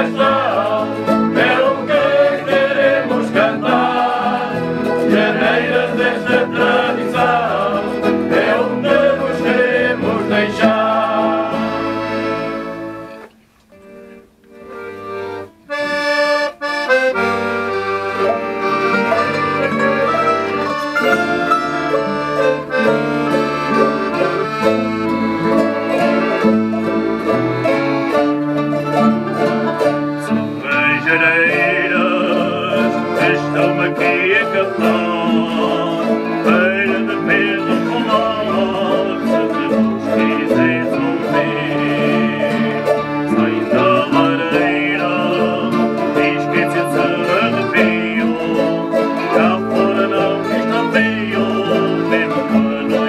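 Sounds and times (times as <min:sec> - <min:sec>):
accordion: 0:00.0 - 0:53.0
mandolins and guitars strumming: 0:00.0 - 0:53.0.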